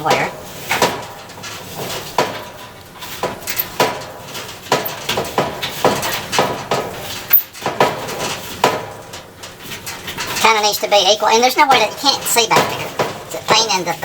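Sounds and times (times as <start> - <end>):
dryer drum knocking and clunking: 0.0 - 14.0.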